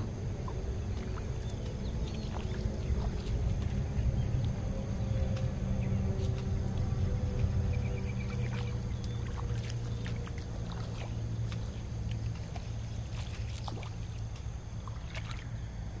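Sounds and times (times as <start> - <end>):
steady low hum: 0.0 - 16.0
water splashing and dripping: 0.0 - 16.0.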